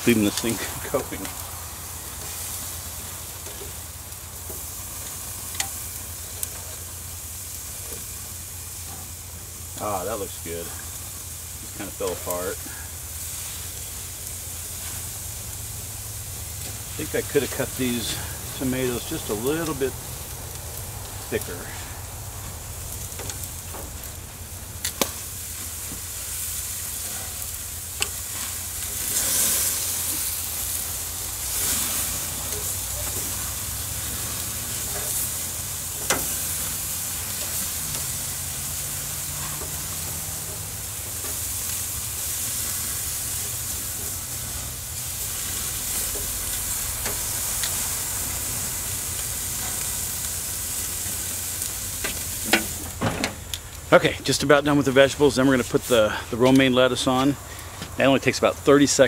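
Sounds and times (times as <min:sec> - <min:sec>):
meat and vegetables sizzling on grill: 0:00.0 - 0:59.0.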